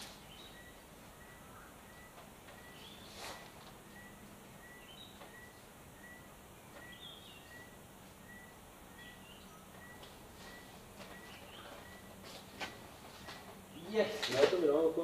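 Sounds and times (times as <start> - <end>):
faint bird calls: 0.0 - 14.1.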